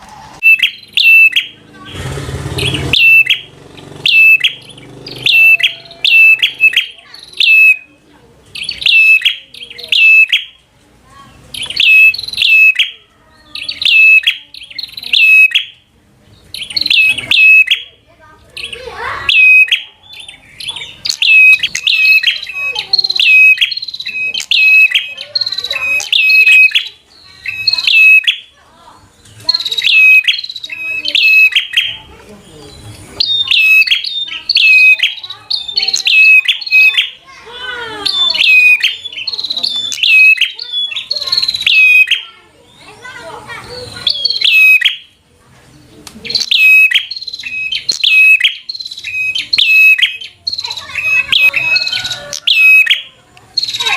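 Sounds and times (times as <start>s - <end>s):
bird chirping rapidly: 0.4s - 10.6s, 11.2s - 45.2s, 46.2s - 53.9s.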